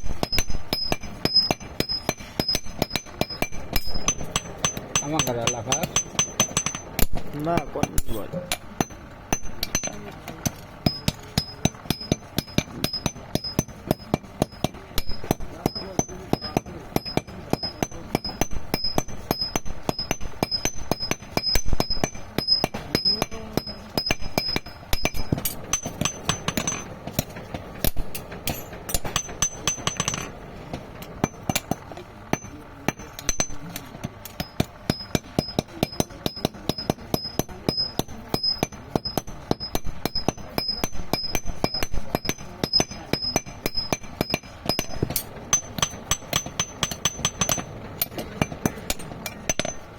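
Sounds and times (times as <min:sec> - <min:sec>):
hammers striking iron on anvil: 0:00.0 - 0:49.9.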